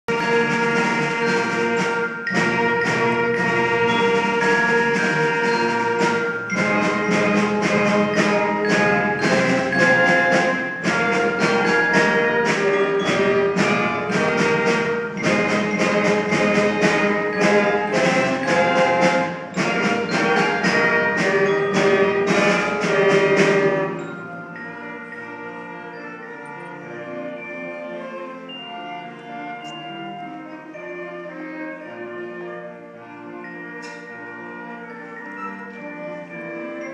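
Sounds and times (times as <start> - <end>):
orchestra playing: 0.0 - 36.9.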